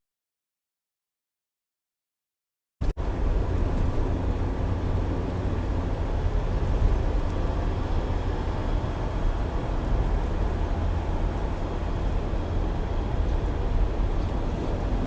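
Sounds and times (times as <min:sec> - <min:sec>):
vehicle engine rumble: 0:02.8 - 0:15.0.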